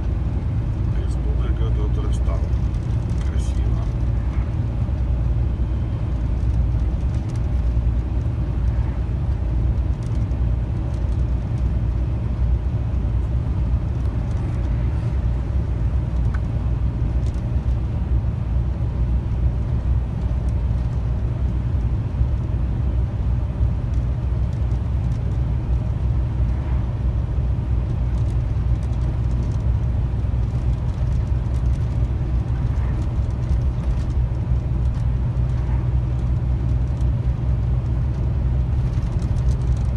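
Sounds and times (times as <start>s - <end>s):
truck diesel engine drone: 0.0s - 39.9s
tyre noise on highway: 0.0s - 39.9s.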